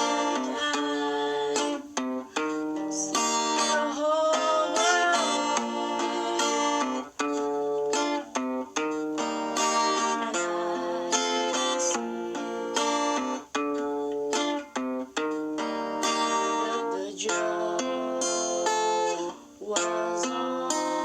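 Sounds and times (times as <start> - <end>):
guitar chords ringing: 0.0 - 21.0.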